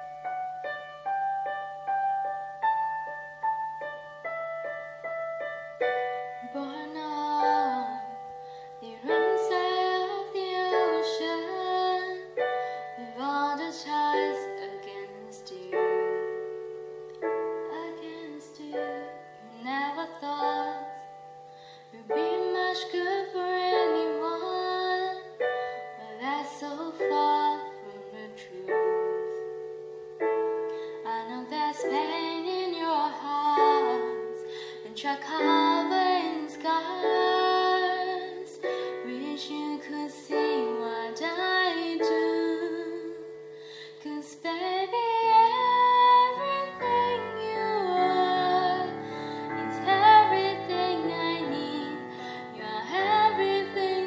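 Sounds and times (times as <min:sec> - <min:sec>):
digital piano chords: 0:00.0 - 0:54.0
woman singing a slow ballad: 0:06.2 - 0:54.0.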